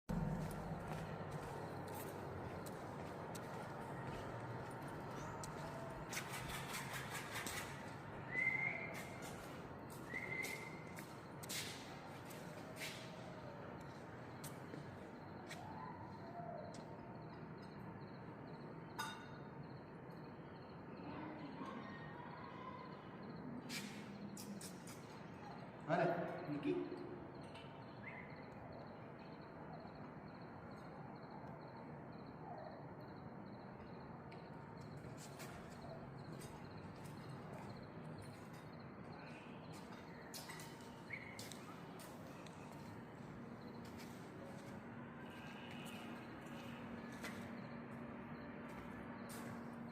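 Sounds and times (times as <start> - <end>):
faint background noise: 0.1 - 49.9.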